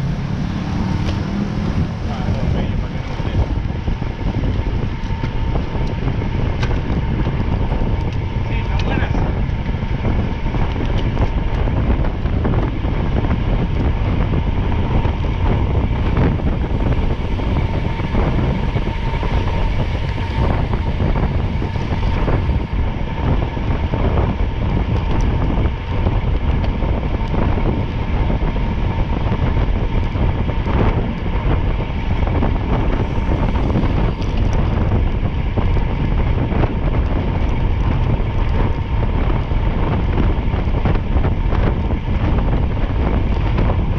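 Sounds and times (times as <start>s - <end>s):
gusts of noise: 0.0s - 43.9s
vehicle rumble: 0.0s - 43.9s.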